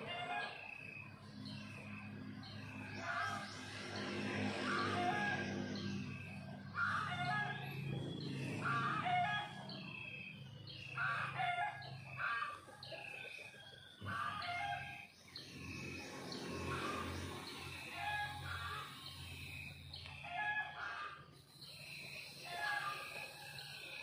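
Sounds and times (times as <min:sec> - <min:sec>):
chickens calling: 0:00.0 - 0:00.8, 0:01.4 - 0:24.0
small birds chirping: 0:00.0 - 0:24.0.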